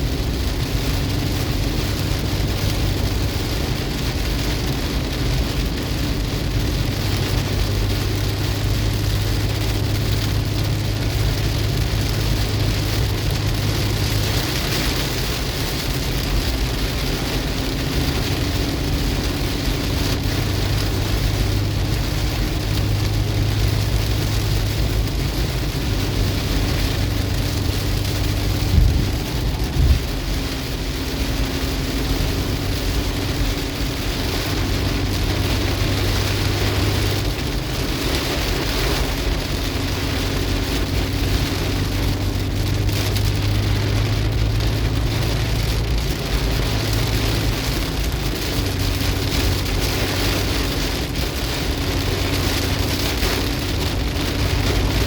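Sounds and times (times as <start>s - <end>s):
heavy rain on car roof: 0.0s - 55.0s
low hum of engine and road: 0.0s - 55.0s.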